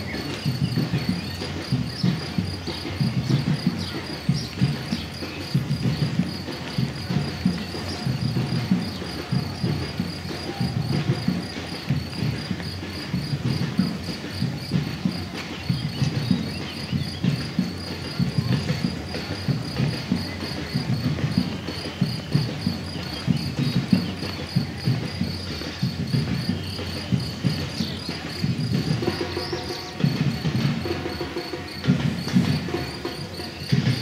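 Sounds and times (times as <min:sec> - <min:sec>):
insect chirping: 0:00.0 - 0:34.0
runners' footfalls on asphalt: 0:00.0 - 0:34.0.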